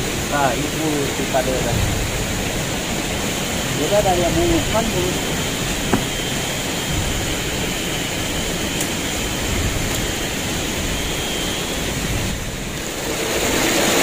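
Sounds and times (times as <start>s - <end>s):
forest stream rushing: 0.0s - 14.0s.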